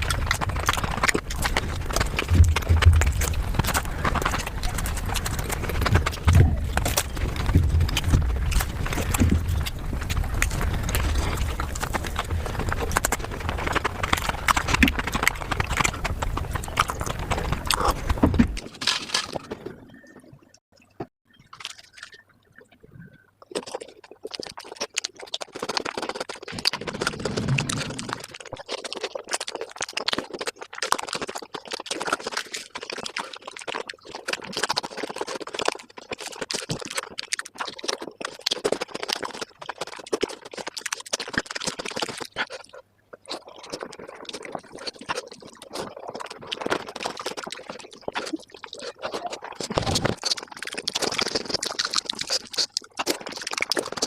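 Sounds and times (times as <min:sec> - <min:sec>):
fast wet chewing: 0:00.0 - 0:19.7, 0:23.4 - 0:54.0.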